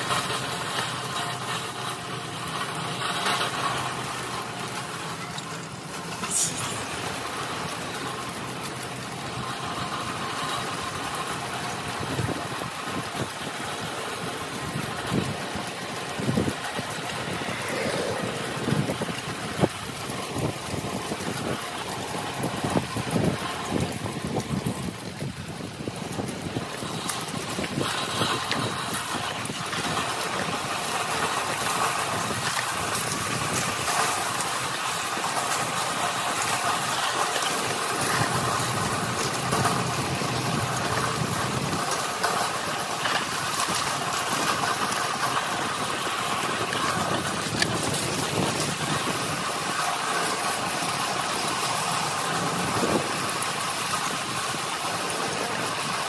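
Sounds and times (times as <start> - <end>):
wagon wheels rolling on pavement: 0.0 - 56.0.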